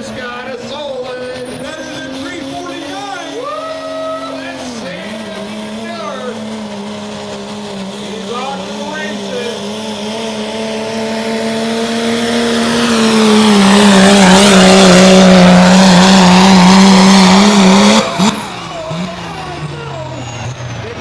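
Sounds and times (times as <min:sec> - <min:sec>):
diesel truck engine at full throttle: 0:00.0 - 0:21.0.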